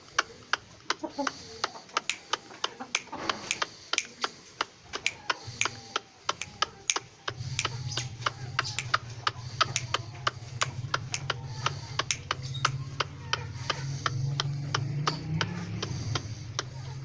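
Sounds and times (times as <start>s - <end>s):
faint voices: 0.0s - 17.0s
rapid sharp clicks: 0.0s - 17.0s.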